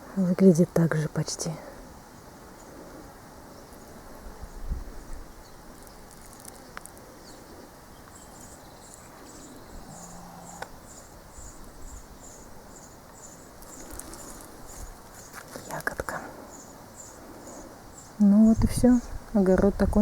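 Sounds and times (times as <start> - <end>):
steady outdoor hiss: 0.0 - 20.0
insect chirping: 0.1 - 19.4.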